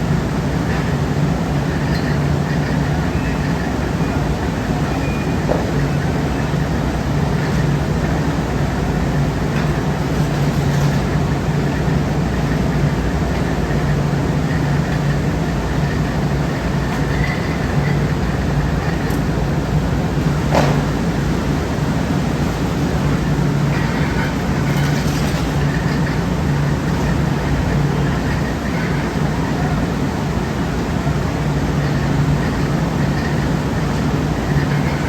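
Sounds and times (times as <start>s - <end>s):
workshop machinery drone: 0.0s - 35.0s.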